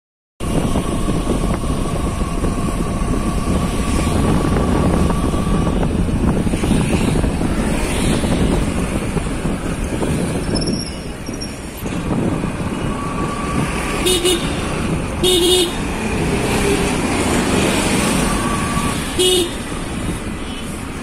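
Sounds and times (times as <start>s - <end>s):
engine and tyre rumble: 0.4s - 21.0s
wind buffeting microphone: 0.4s - 21.0s.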